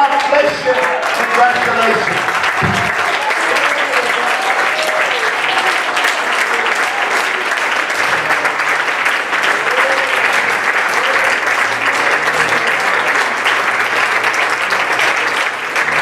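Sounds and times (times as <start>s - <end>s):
congregation applauding: 0.0s - 16.0s.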